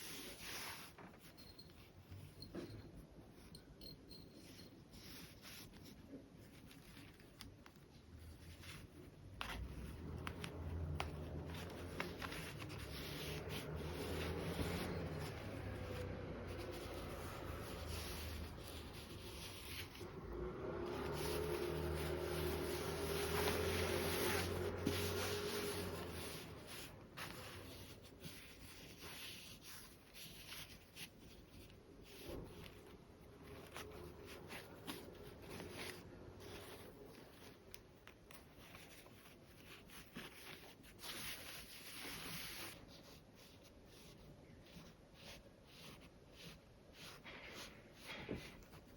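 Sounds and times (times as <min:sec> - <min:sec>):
fabric rubbing and rustling: 0:00.0 - 0:03.5, 0:04.3 - 0:48.9.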